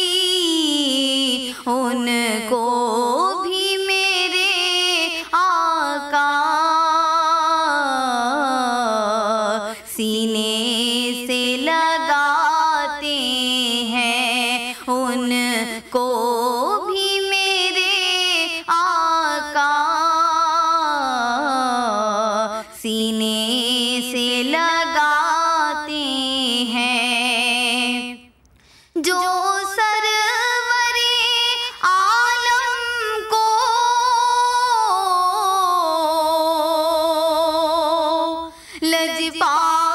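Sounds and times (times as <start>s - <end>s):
girl singing devotional song: 0.0s - 39.9s.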